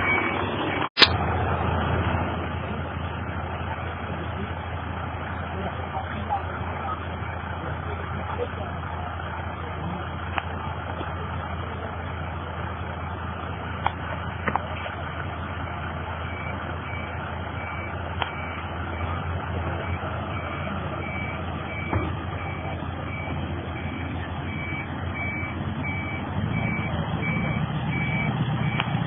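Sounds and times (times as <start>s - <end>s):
truck reversing alarm beeping: 0.0s - 1.2s, 5.3s - 9.8s, 11.2s - 29.0s
truck engine humming: 0.0s - 29.0s.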